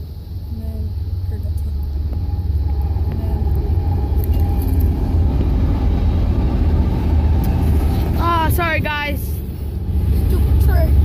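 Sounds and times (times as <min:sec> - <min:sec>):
wind buffeting microphone: 0:01.0 - 0:11.0.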